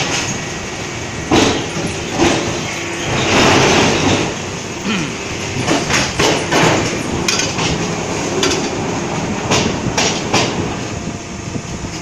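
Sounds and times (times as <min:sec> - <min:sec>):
steady machine noise: 0:00.0 - 0:12.0.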